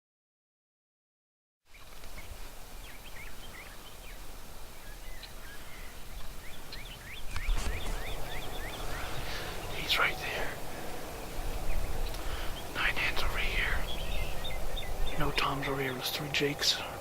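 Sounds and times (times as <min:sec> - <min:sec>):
low wind rumble: 0:01.7 - 0:17.0
turkeys chirping: 0:01.8 - 0:16.9.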